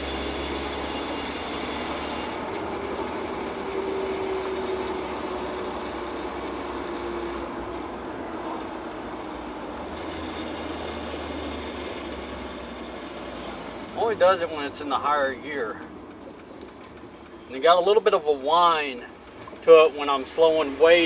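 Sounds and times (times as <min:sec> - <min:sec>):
differential whirring whine: 0:00.0 - 0:21.0
pickup cab and road noise: 0:00.0 - 0:21.0.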